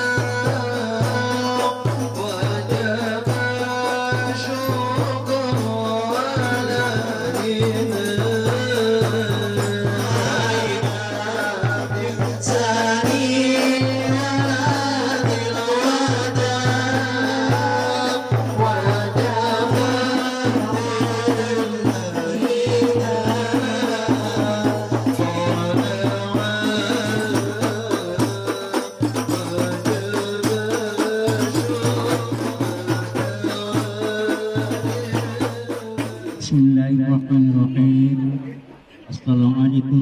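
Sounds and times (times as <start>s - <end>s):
frame drums beating: 0.0s - 36.6s.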